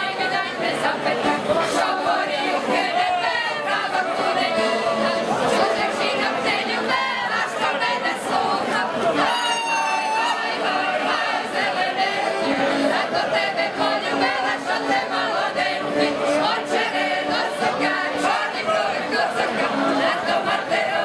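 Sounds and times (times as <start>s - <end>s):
mixed choir singing folk song: 0.0s - 21.0s.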